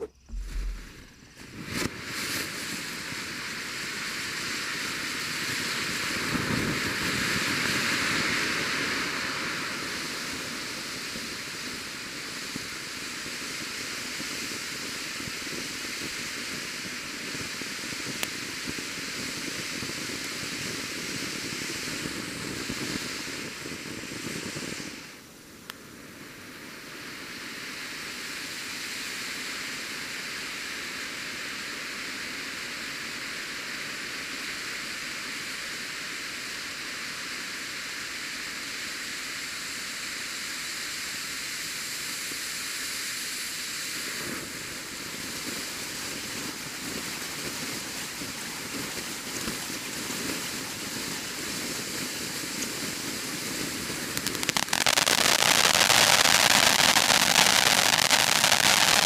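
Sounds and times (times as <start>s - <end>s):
fireworks dense crackling: 0.0s - 59.0s
fireworks fountain hissing sparks: 0.0s - 59.0s.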